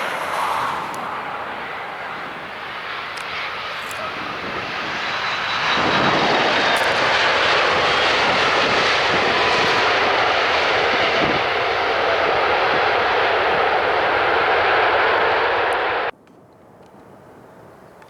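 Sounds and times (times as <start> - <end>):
high engine whine: 0.0 - 16.1
jet engines roaring: 0.0 - 16.1.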